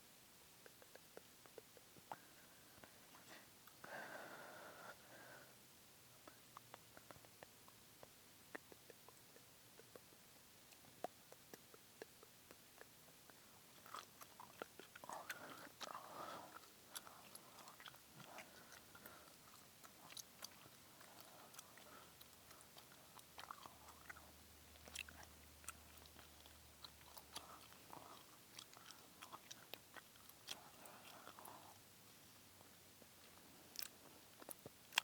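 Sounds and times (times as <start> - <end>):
gum chewing: 0.6 - 3.8, 6.2 - 35.0.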